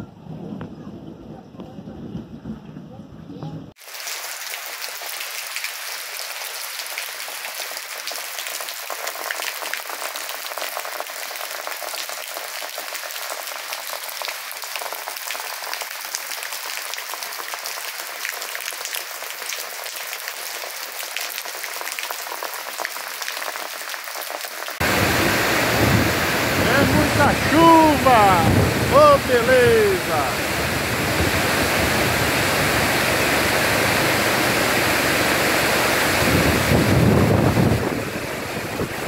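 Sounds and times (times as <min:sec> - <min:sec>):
heavy rain falling: 0:03.7 - 0:39.0.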